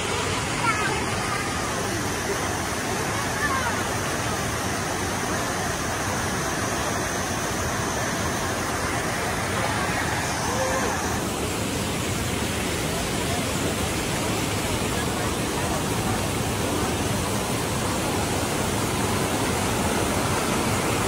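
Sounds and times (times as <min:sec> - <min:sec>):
waterfall rushing over rocks: 0:00.0 - 0:21.0.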